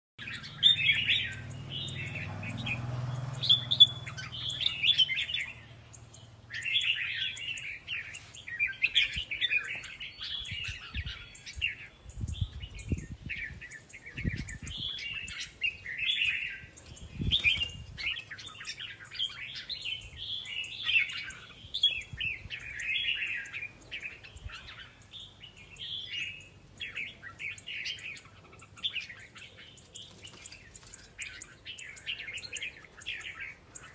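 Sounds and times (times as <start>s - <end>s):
bulbuls singing: 0.2s - 33.9s.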